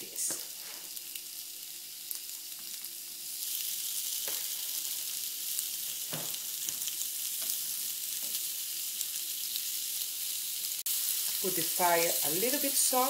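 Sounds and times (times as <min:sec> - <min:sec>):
meat sizzling on a grill pan: 0:00.0 - 0:13.0.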